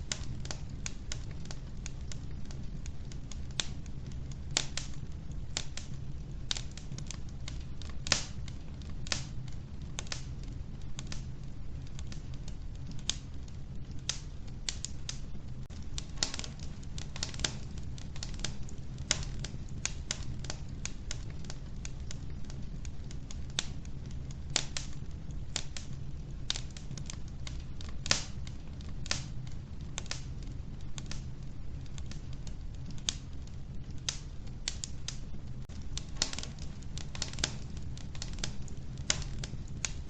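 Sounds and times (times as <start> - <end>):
burning logs crackling and popping: 0.0 - 40.0
low rumble of fire: 0.0 - 40.0.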